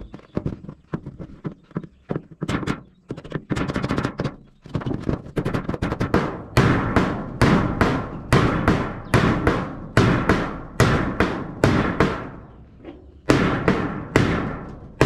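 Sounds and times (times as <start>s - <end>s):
hammer on metal roofing sheet: 2.2s - 15.0s.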